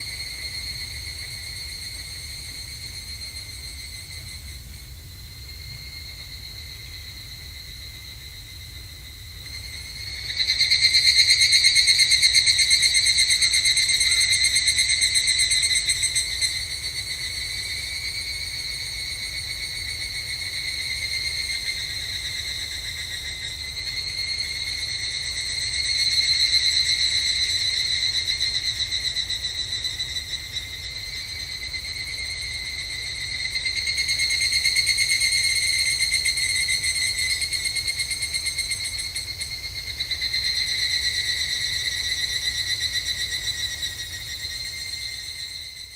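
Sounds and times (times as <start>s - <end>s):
cicadas calling: 0.0s - 45.9s.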